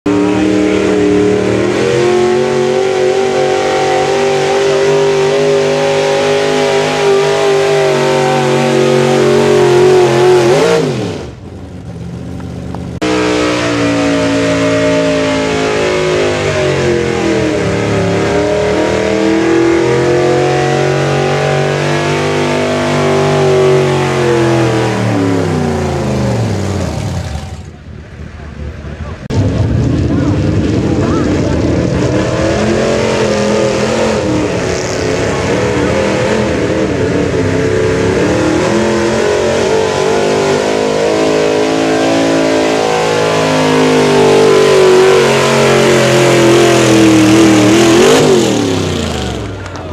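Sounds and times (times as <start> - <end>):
truck engines revving high: 0.0 - 49.9.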